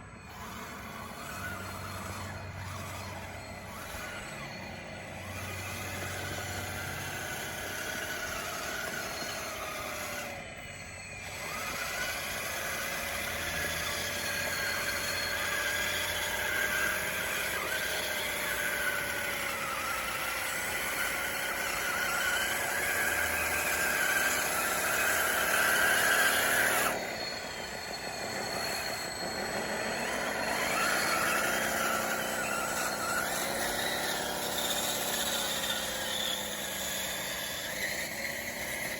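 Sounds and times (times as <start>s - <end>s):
electric motors and gears whining: 0.0s - 38.9s.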